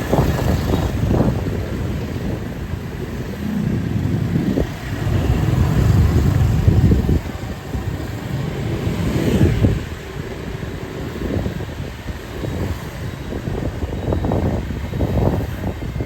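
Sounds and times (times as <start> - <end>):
motorbikes passing: 0.0 - 16.0
street bustle: 0.0 - 16.0.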